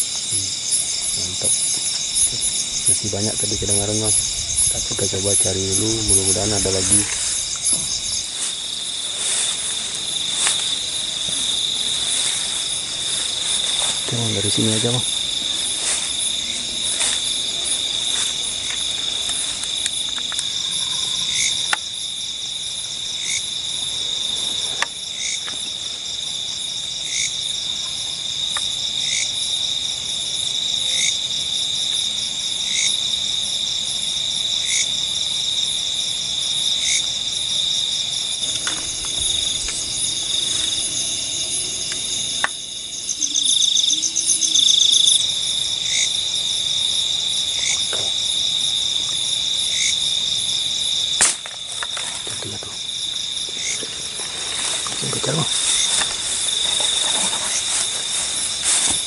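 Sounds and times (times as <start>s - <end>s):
crickets and insects trilling: 0.0s - 59.0s
short insect call: 0.0s - 59.0s.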